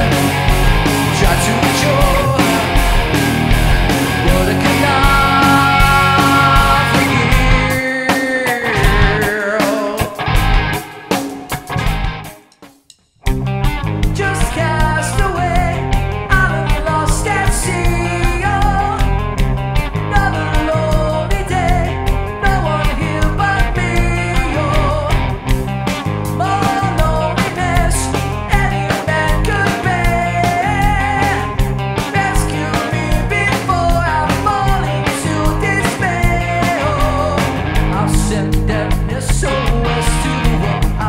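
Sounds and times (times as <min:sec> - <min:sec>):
bass guitar: 0:00.0 - 0:12.5, 0:13.2 - 0:41.0
electric guitar: 0:00.0 - 0:12.6, 0:13.2 - 0:41.0
drum kit beat: 0:00.0 - 0:41.0
person singing: 0:00.9 - 0:03.2, 0:04.1 - 0:10.6, 0:14.1 - 0:19.2, 0:20.0 - 0:25.4, 0:26.3 - 0:41.0.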